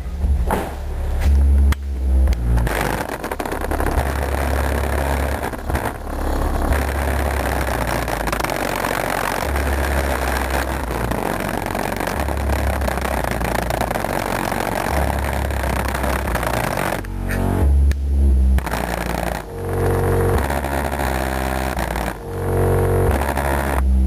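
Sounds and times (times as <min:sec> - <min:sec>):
bass-heavy music from subwoofers: 0:00.0 - 0:24.0.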